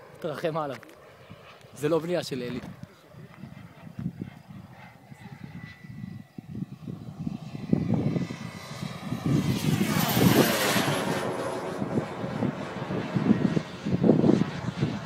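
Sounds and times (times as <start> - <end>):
model jet whine flying past: 0.0 - 15.0.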